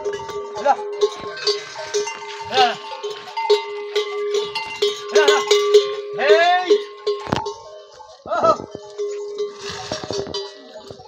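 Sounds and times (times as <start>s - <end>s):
camels calling: 0.0s - 11.0s
metal neck bell clanking: 0.0s - 11.0s.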